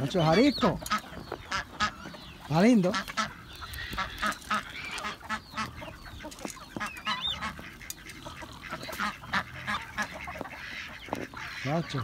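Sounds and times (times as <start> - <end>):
ducks chickens and guinea fowl calling: 0.0 - 12.0.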